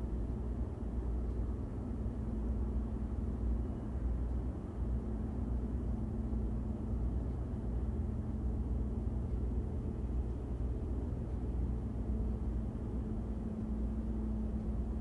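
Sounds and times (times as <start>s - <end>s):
low rumble with faint hum: 0.0s - 15.0s.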